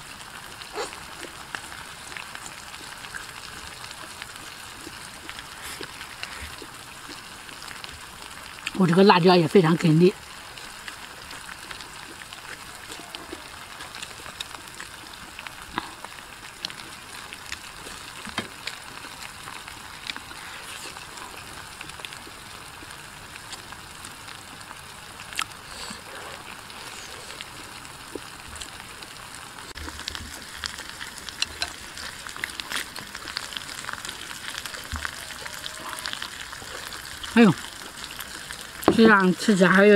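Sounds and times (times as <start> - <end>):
food sizzling in a wok: 0.0 - 39.9.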